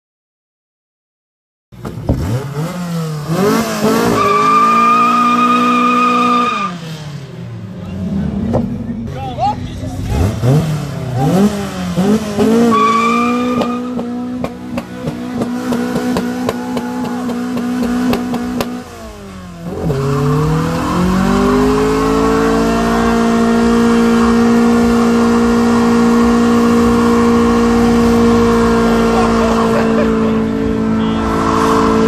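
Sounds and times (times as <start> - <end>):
car engine revving: 1.8 - 32.0.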